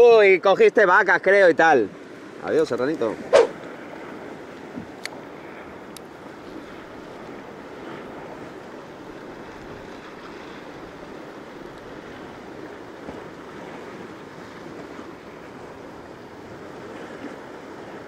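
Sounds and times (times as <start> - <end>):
sea water washing around kayak: 0.0 - 18.0.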